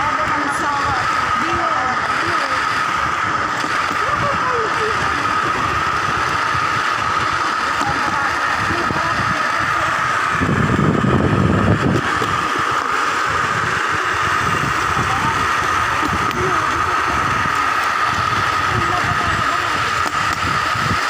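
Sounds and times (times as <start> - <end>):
rail trolley wheels rolling: 0.0 - 21.0.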